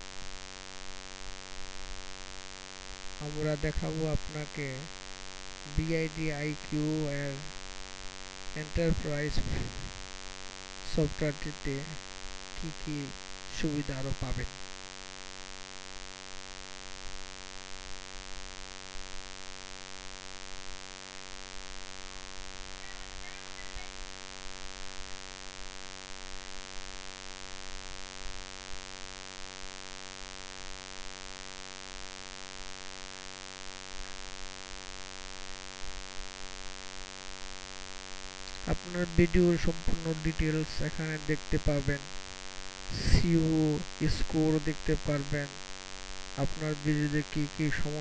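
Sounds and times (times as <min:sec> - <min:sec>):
buzzy electrical mains hum: 0:00.0 - 0:48.0
constant hiss: 0:00.0 - 0:48.0.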